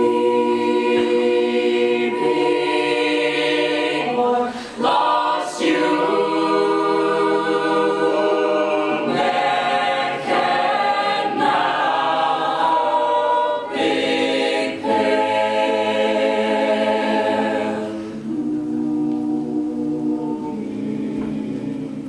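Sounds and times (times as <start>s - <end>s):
a cappella group singing harmony: 0.0s - 22.0s.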